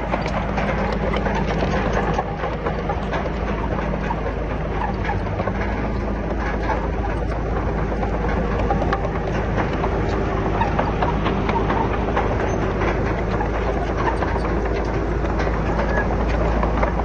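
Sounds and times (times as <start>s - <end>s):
heavy diesel machinery running: 0.0s - 17.0s
metallic clatter and rattling: 0.0s - 17.0s.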